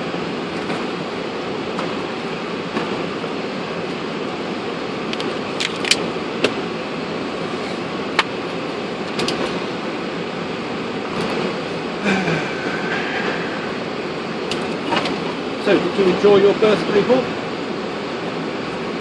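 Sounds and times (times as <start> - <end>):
cockpit air and machinery rush: 0.0 - 19.0.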